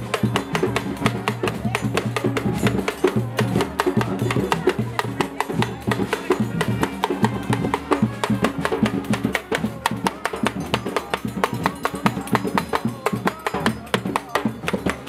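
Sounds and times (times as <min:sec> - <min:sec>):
people clapping: 0:00.0 - 0:15.0
street percussion drums: 0:00.0 - 0:15.0
voices singing along: 0:00.0 - 0:15.0.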